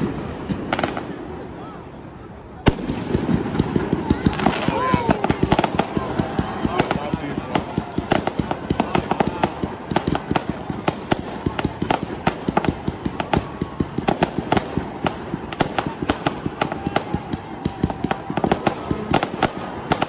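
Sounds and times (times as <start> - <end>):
fireworks popping and banging: 0.0 - 1.2, 2.6 - 20.0.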